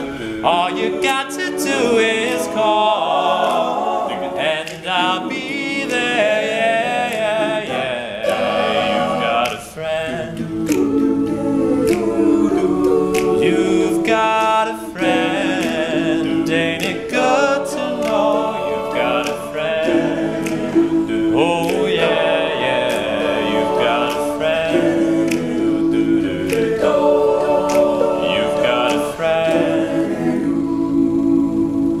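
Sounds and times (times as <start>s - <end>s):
male a cappella group singing: 0.0s - 32.0s.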